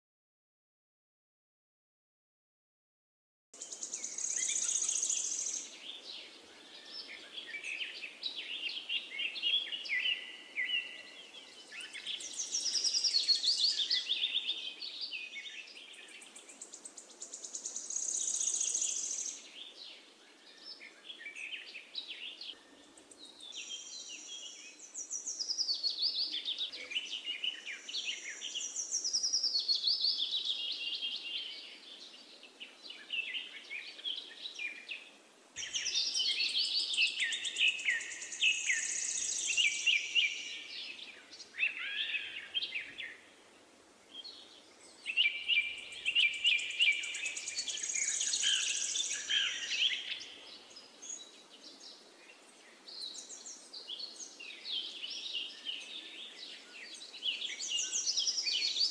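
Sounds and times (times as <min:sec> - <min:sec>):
birds chirping and trilling: 0:03.6 - 0:58.9
faint steady hiss: 0:03.6 - 0:58.9.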